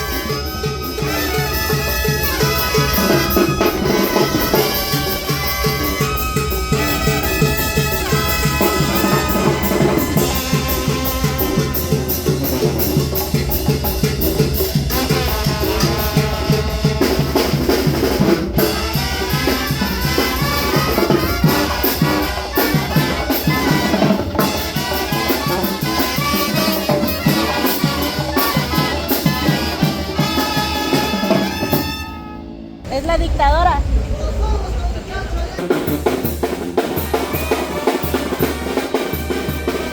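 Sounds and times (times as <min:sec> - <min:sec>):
brass band with trumpets: 0:00.0 - 0:34.1, 0:34.9 - 0:39.9
drums and percussion: 0:00.0 - 0:39.9.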